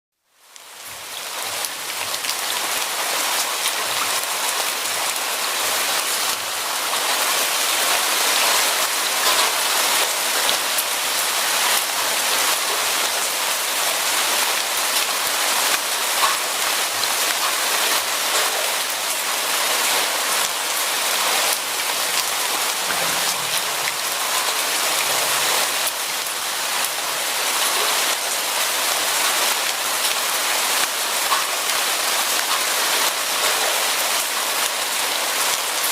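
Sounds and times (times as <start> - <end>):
heavy rain falling: 0.3 - 35.9.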